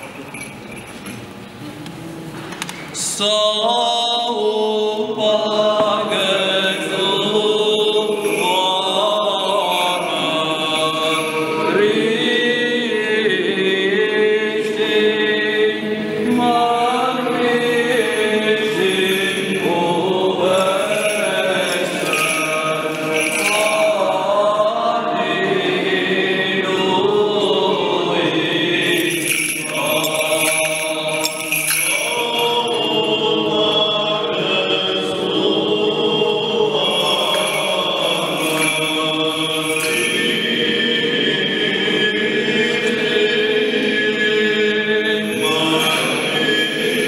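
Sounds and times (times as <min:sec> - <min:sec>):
voices singing liturgical chant: 0:02.9 - 0:47.0.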